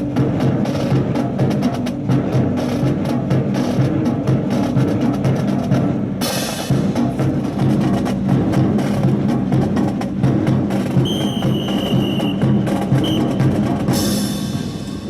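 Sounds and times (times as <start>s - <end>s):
drum-heavy music: 0.0s - 15.0s.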